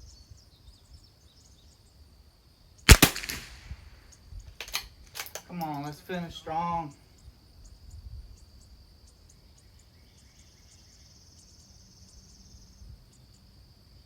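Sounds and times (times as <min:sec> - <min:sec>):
faint insects trilling: 0:00.0 - 0:14.0.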